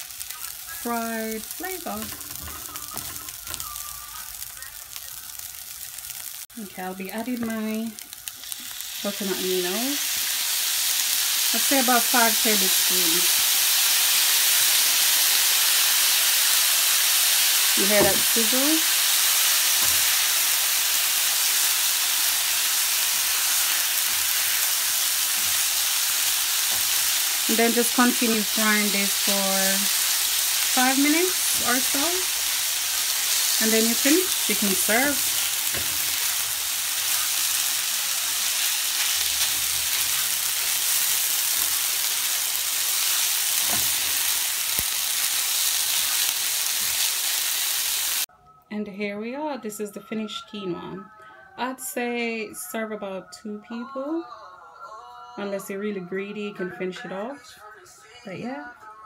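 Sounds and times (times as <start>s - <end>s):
food sizzling in oil in a pan: 0.0s - 48.3s.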